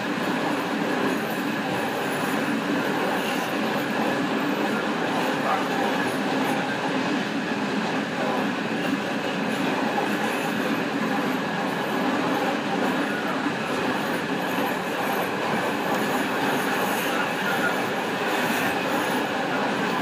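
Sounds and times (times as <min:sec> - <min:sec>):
train wheels rolling on track: 0:00.0 - 0:20.0.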